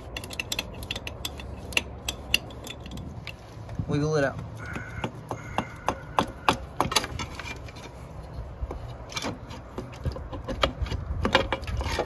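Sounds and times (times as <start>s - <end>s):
pipe clicking and knocking: 0.0s - 3.4s, 4.3s - 7.8s, 8.6s - 12.0s
rubbing and scraping: 0.0s - 12.0s.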